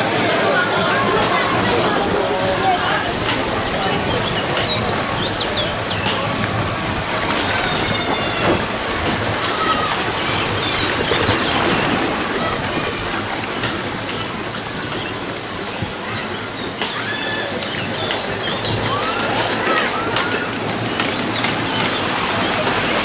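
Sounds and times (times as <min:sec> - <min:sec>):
water rushing and churning: 0:00.0 - 0:23.0.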